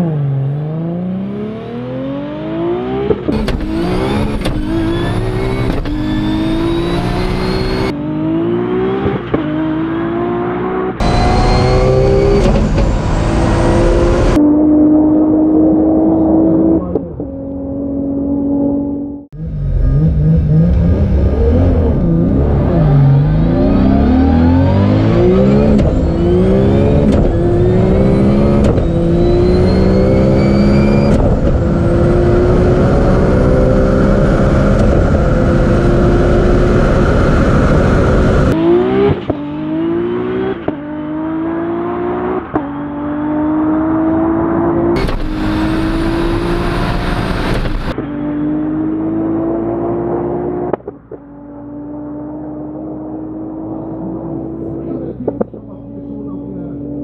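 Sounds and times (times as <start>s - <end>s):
car engine accelerating and shifting: 0.0s - 57.0s.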